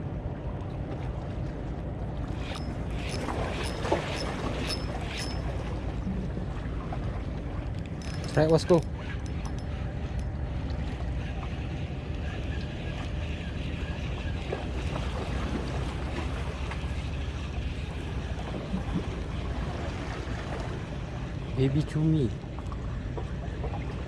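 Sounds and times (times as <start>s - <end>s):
wind rumbling on microphone: 0.0s - 21.6s
water noise: 0.0s - 24.0s
wind: 0.0s - 24.0s.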